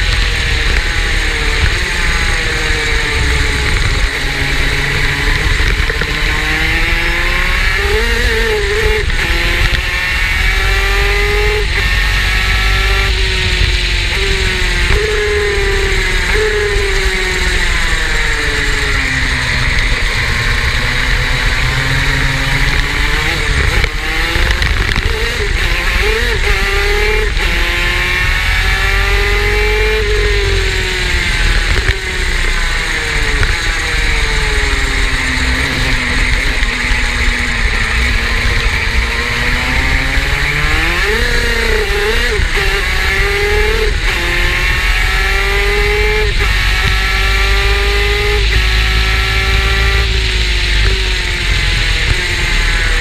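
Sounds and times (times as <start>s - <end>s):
two-stroke kart engine racing: 0.0s - 53.0s.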